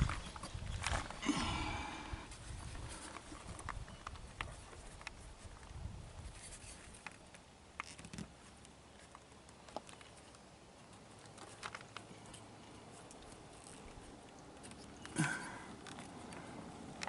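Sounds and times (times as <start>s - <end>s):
light clicks and rustling: 2.3s - 17.0s.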